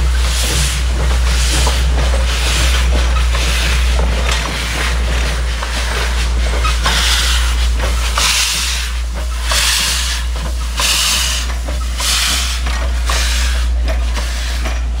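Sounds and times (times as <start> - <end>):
steam hissing in bursts: 0.0 - 15.0.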